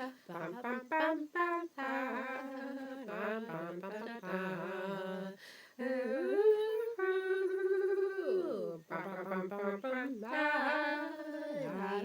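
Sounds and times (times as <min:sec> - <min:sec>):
person humming a wordless tune: 0:00.0 - 0:12.0.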